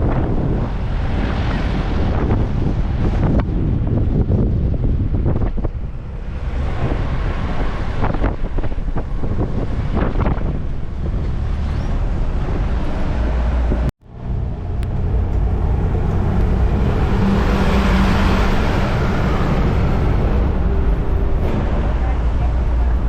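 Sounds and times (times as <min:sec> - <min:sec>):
vehicle engine and road rumble: 0:00.0 - 0:23.0
wind noise: 0:00.0 - 0:23.0.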